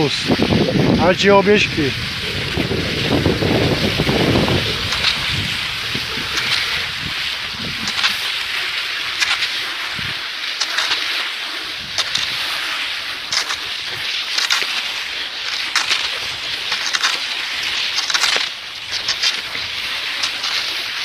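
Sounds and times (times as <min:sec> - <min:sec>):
skis hissing on snow: 0:00.0 - 0:21.0
crunch of strides and pole plants: 0:01.8 - 0:21.0.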